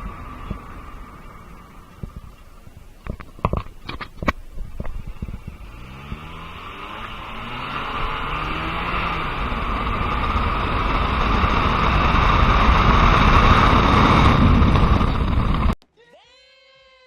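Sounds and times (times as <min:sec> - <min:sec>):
car engine: 0:00.0 - 0:15.8
road and wind noise: 0:00.0 - 0:15.8.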